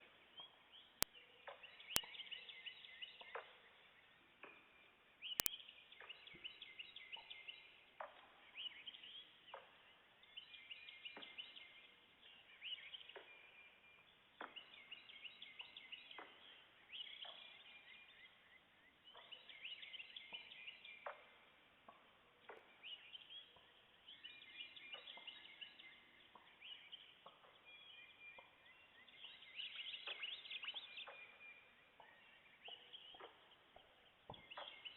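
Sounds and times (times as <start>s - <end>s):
birdsong: 0.0s - 34.9s.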